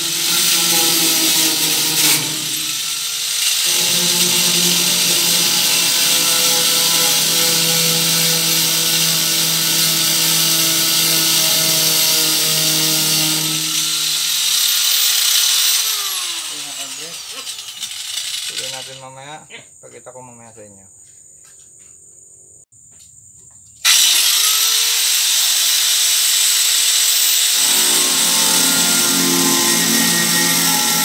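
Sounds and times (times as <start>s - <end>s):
grinder disc spinning down: 0.0s - 19.0s, 23.9s - 31.0s
angle grinder whining: 0.0s - 19.2s, 23.8s - 31.0s.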